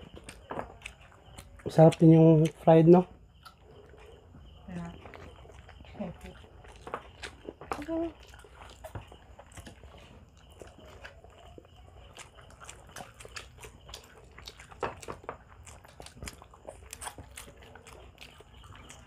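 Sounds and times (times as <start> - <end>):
sharp crunchy clicks: 0.0 - 4.2, 5.0 - 19.0
chewing and biting: 0.0 - 19.0.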